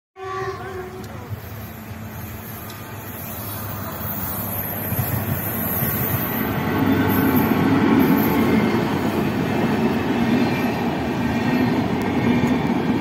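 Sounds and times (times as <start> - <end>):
train wheels rumbling on rails: 0.4 - 13.0.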